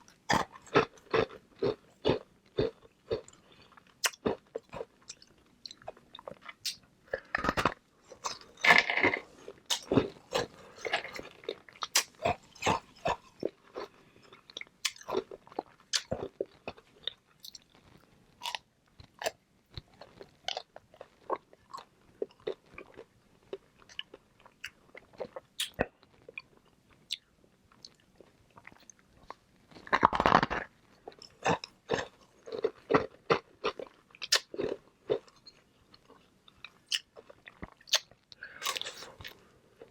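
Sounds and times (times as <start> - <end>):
ice balls crunching while chewed: 0.0 - 39.9.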